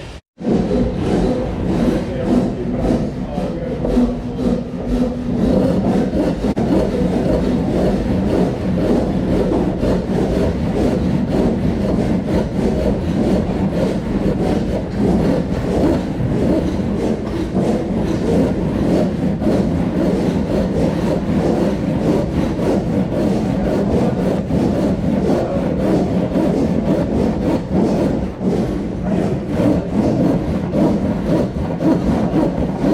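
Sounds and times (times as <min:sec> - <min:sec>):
hand saw rasping through wood: 0:00.3 - 0:32.9.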